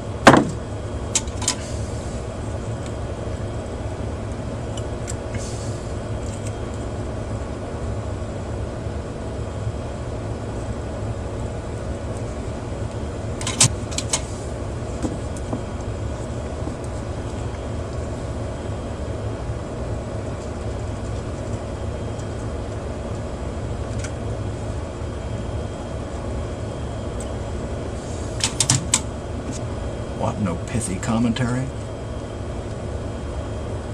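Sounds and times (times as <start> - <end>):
faint hum: 0.0 - 33.9
steady low rumble: 0.0 - 33.9.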